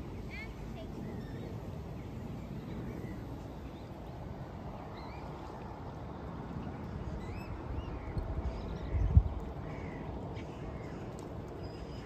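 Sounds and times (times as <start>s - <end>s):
steady low pond noise: 0.0s - 12.0s.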